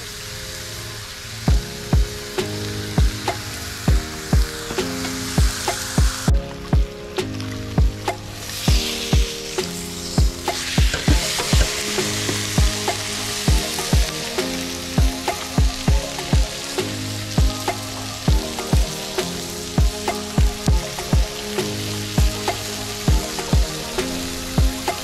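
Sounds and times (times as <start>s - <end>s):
steak sizzling on grill pan: 0.0s - 25.0s
background music with steady beat: 1.5s - 25.0s.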